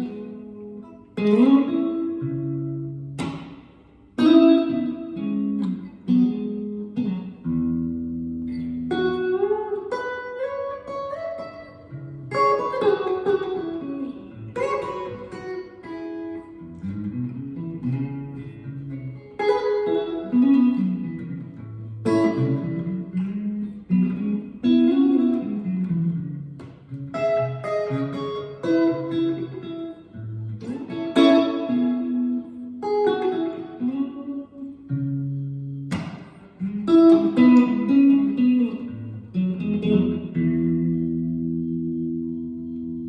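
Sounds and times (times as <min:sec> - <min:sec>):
electric guitar playing: 0:00.0 - 0:43.0.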